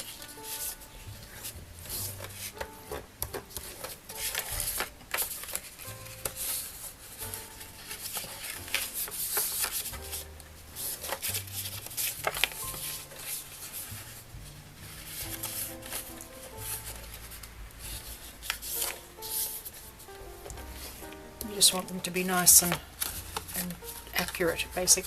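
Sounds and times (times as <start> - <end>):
cardstock folding and crackling: 0.0 - 25.0
soft background music: 0.0 - 25.0.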